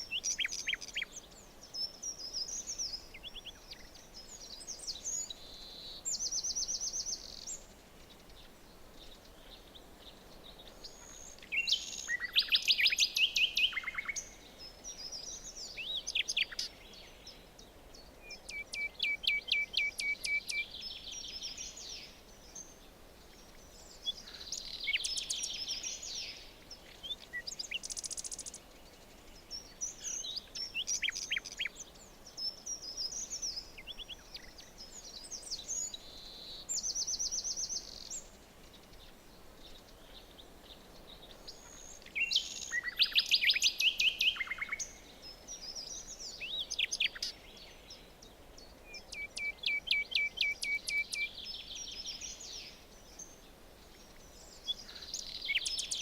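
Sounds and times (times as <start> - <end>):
faint background hiss: 0.0 - 56.0
forest birds calling and singing: 0.0 - 56.0.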